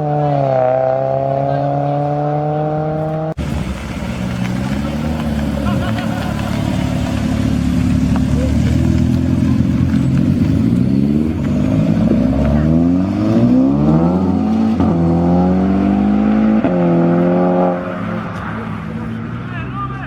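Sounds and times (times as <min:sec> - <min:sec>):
car engine accelerating through gears: 0:00.0 - 0:19.5.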